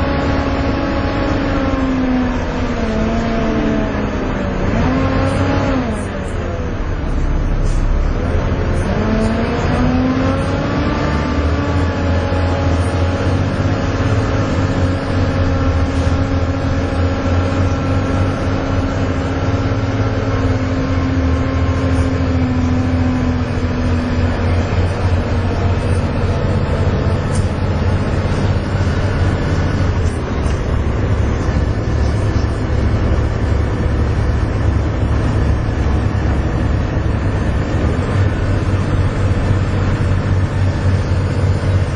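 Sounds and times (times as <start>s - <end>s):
bus diesel engine drone: 0.0s - 41.9s.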